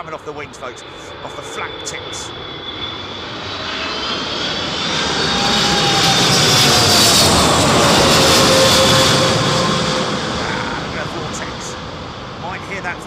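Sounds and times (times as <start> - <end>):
jet airliner passing overhead: 0.0 - 13.0
jet engine whine falling in pitch: 0.0 - 13.0.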